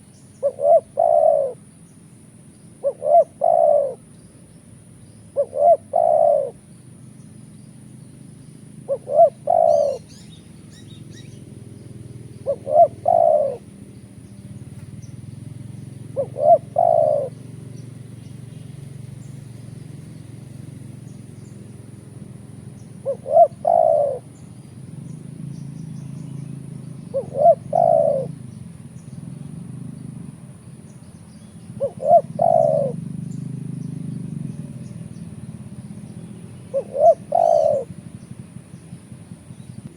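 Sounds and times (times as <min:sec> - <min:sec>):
dove cooing: 0:00.0 - 0:04.6, 0:05.2 - 0:39.9.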